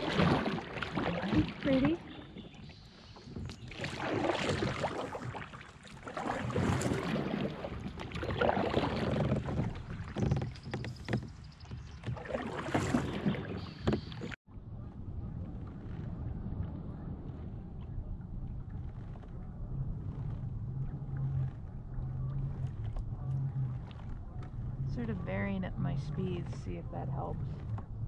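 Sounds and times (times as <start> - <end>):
water splashing against kayak hull: 0.0 - 28.0.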